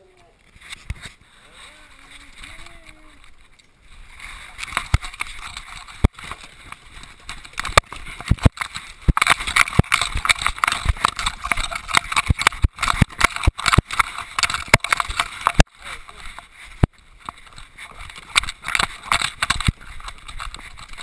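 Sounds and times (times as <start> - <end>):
rubbing noise: 0.4 - 21.0
dog paws on wooden boards: 1.9 - 21.0.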